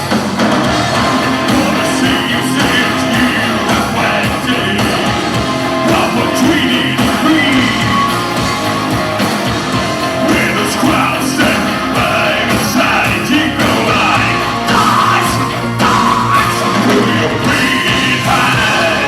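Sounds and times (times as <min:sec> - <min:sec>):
live rock band playing: 0:00.0 - 0:19.0
person singing: 0:00.9 - 0:08.2, 0:10.1 - 0:19.0.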